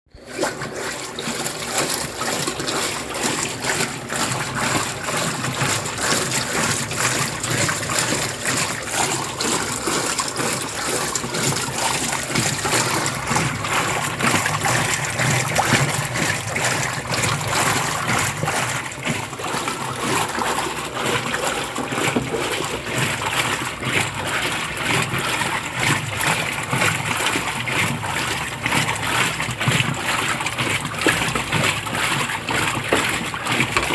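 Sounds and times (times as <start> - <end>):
washing machine running: 0.1 - 33.9
water splashing and trickling: 0.1 - 33.9.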